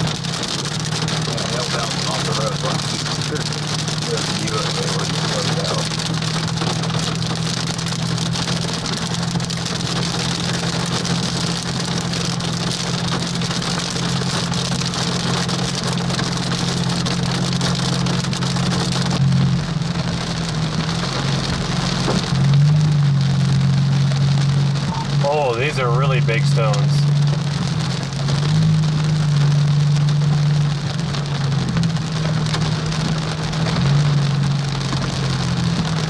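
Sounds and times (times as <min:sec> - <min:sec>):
car engine hum: 0:00.0 - 0:36.0
hailstones hitting car: 0:00.0 - 0:36.0.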